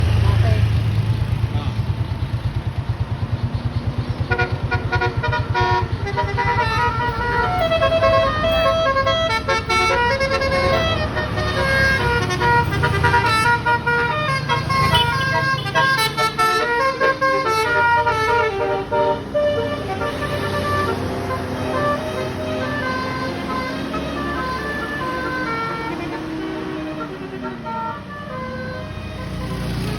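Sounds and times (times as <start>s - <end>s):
bus engine running: 0.0s - 29.9s
bus musical horn playing a tune: 4.3s - 29.9s.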